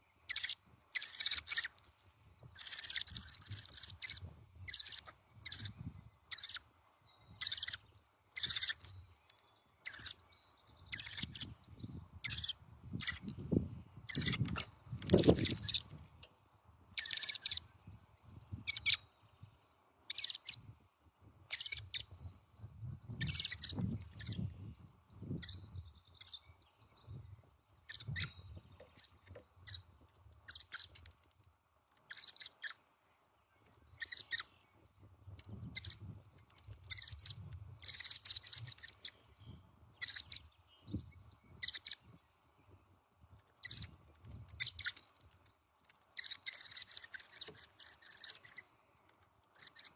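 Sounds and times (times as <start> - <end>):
small birds calling: 0.0 - 49.9.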